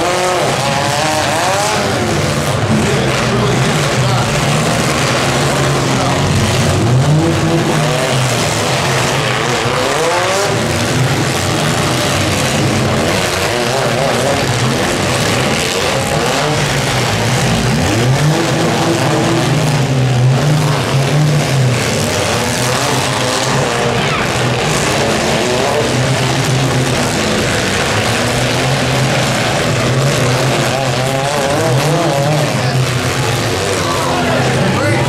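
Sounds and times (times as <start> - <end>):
car engines revving hard: 0.0 - 35.0
cars grinding together: 0.0 - 35.0
noisy din: 0.0 - 35.0.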